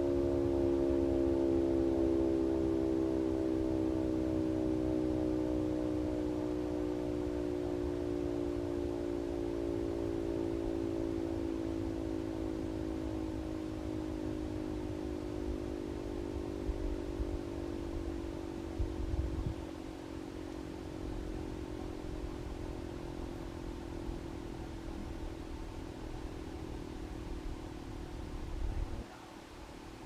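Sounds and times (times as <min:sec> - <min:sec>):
air-raid siren winding down: 0:00.0 - 0:29.1.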